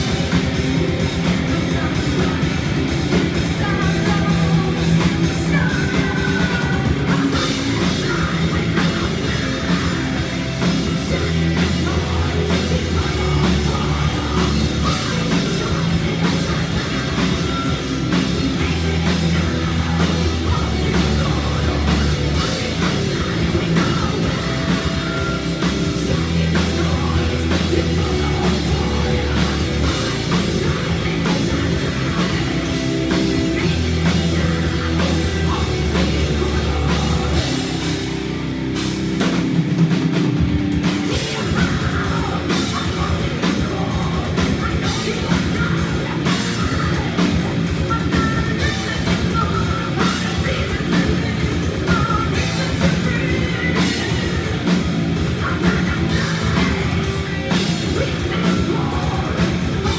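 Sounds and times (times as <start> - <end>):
distorted electric guitars: 0.0 - 59.9
driving drum kit: 0.0 - 59.9
sustained bass notes: 0.0 - 59.9.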